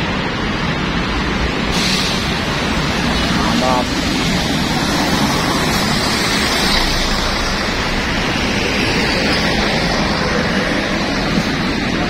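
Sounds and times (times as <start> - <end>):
coach engine and tyre rush: 0.0 - 12.0.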